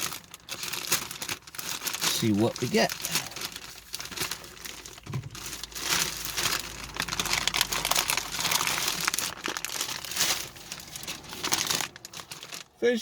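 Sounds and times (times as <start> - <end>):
plastic tearing: 0.0 - 12.8
plastic packaging crinkling: 0.0 - 13.0.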